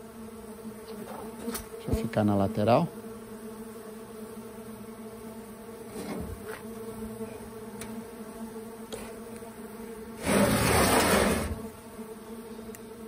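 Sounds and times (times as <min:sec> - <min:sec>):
bees buzzing in flight: 0:00.0 - 0:13.0.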